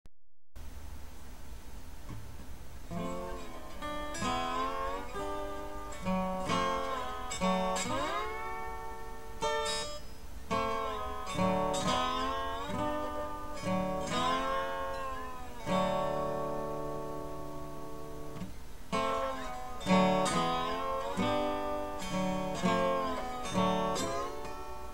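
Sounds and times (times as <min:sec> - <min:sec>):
acoustic guitar music: 0:02.0 - 0:24.9.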